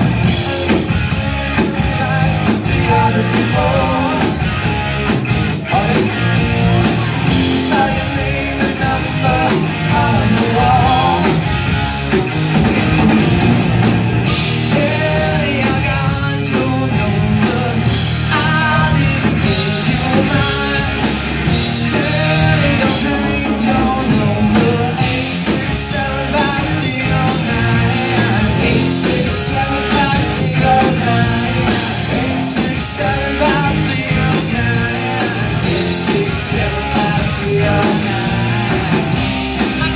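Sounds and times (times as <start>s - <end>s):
lead vocal singing: 0.0s - 4.6s, 5.5s - 11.6s, 14.3s - 39.9s
live rock band playing: 0.0s - 39.9s.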